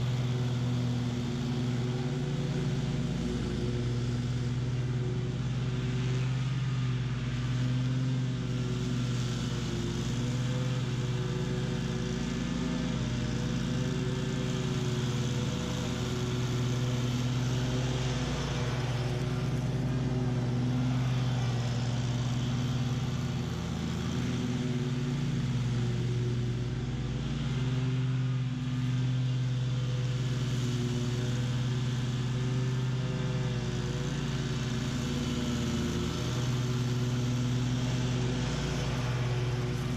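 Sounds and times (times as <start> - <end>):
mower engine and blades droning: 0.0 - 39.9.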